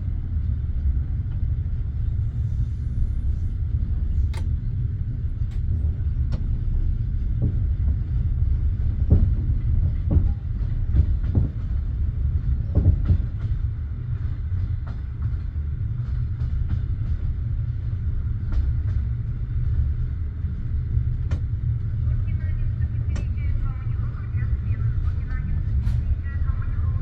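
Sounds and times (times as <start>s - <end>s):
train carriage rumble: 0.0s - 27.0s.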